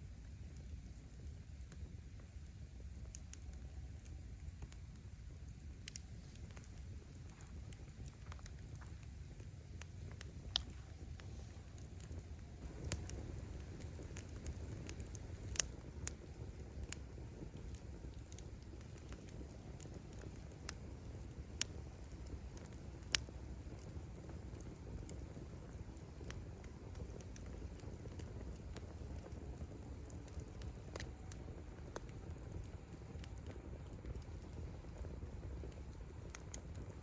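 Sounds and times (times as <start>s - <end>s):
bonfire flames rumbling: 0.0s - 37.0s
wood crackling and popping: 0.0s - 37.0s.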